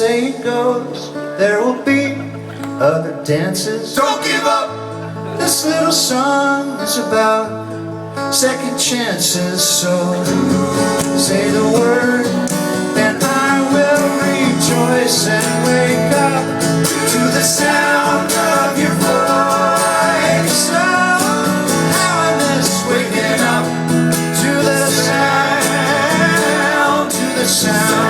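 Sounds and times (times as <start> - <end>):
live pop-rock band playing: 0.0 - 28.0
electric guitar: 4.5 - 28.0.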